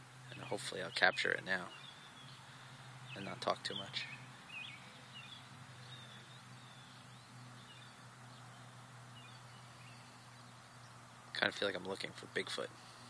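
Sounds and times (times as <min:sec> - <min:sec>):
steady low hum: 0:00.0 - 0:13.0
faint bird chirps: 0:00.3 - 0:11.5.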